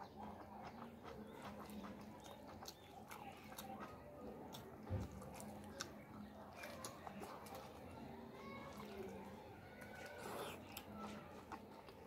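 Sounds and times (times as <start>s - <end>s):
man chewing food: 0.0s - 12.0s.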